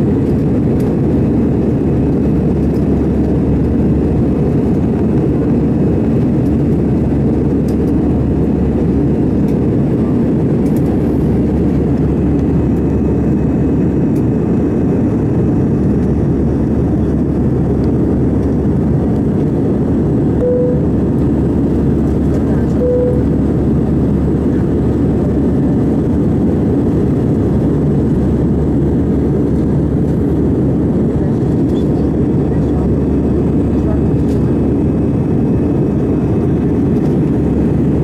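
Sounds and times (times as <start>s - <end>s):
airliner cabin engine rush: 0.0s - 38.0s.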